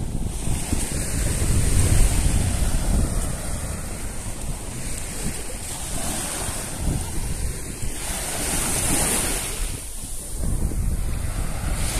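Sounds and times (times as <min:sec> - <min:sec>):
small waves washing on shore: 0:00.0 - 0:11.9
wind buffeting microphone: 0:00.0 - 0:11.9.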